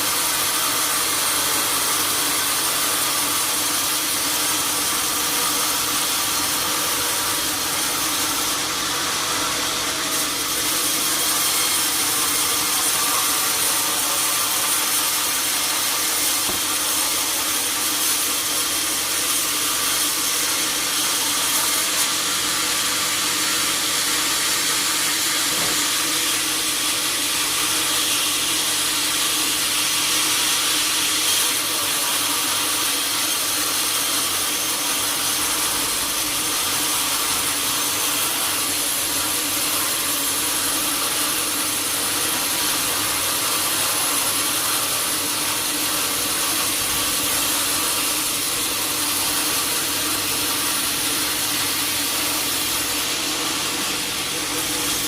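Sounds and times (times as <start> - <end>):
saw cutting wood: 0.0 - 55.0.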